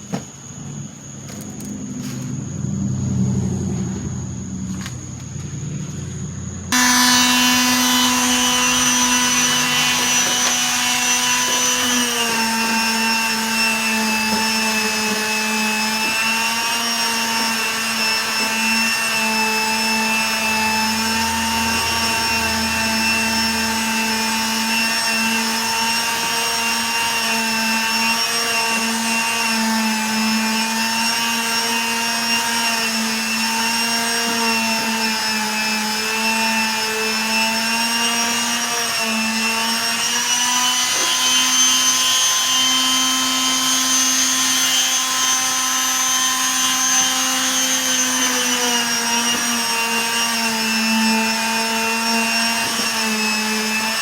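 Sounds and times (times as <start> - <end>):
power tool motor running: 0.0 - 54.0.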